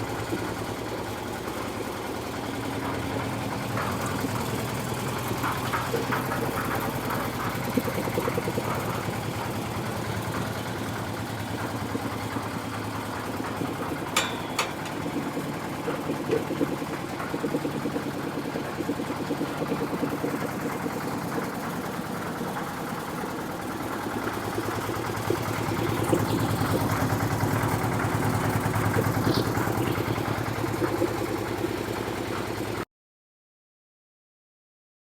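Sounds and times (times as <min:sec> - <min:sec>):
concrete mixer engine running: 0:00.0 - 0:32.8.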